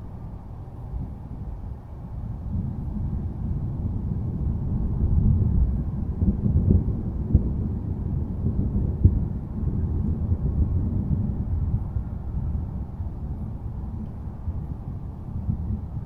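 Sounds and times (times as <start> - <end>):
distant thunder rumbling: 2.4 - 16.0.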